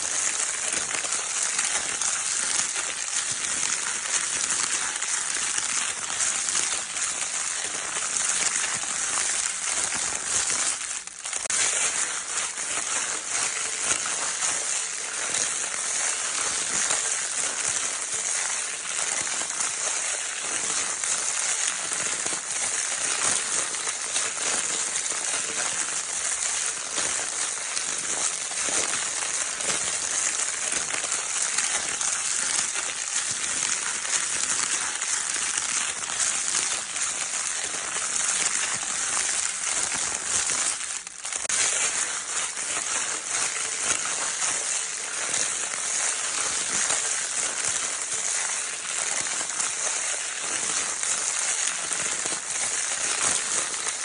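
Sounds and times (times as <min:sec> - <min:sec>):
crinkle paper toy crackling: 0:00.0 - 0:54.0.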